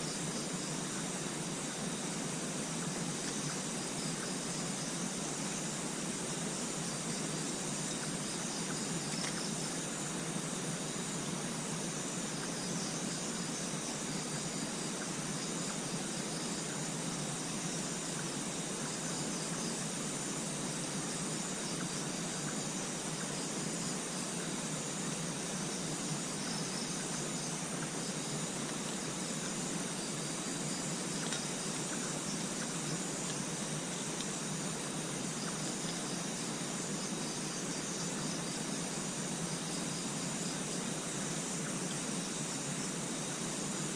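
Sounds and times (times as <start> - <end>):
even outdoor hiss: 0.0 - 43.9
insect chorus shrilling: 0.0 - 43.9.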